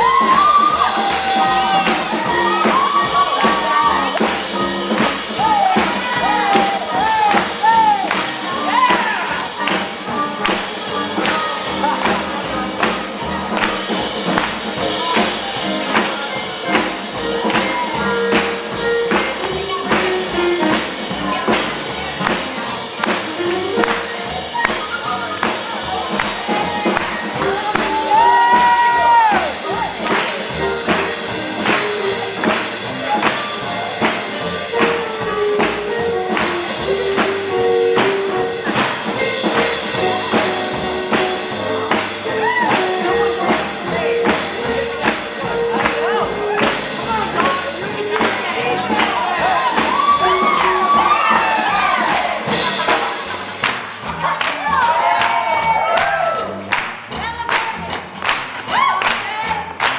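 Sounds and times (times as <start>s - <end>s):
drums: 0.0s - 59.9s
live band playing gospel music: 0.0s - 59.9s.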